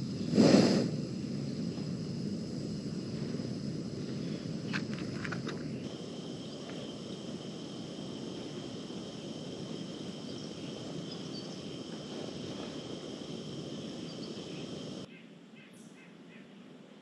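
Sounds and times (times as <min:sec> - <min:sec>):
low rushing noise: 0:00.0 - 0:15.1
high insect trill: 0:00.0 - 0:15.7.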